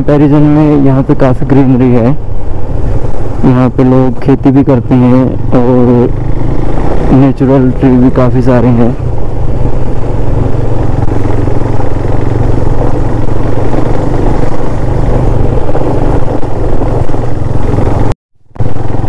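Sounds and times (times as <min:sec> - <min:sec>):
constant rushing noise: 0:00.0 - 0:19.0
motorcycle engine running: 0:00.0 - 0:19.0.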